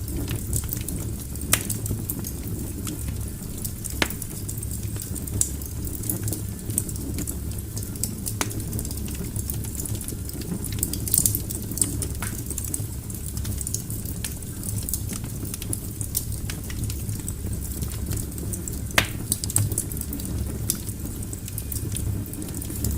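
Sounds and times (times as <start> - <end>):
fire popping: 0.0 - 22.9
wood fire crackling: 0.0 - 22.9.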